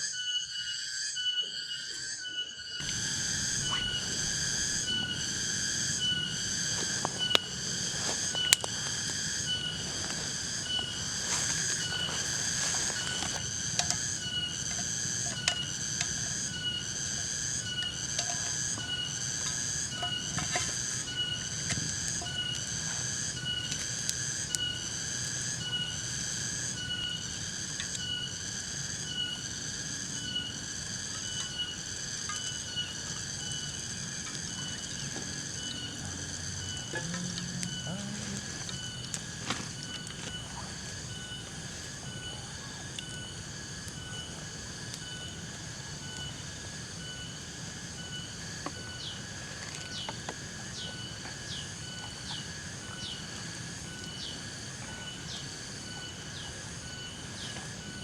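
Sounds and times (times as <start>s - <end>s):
night insect pulsing call: 0.0s - 58.0s.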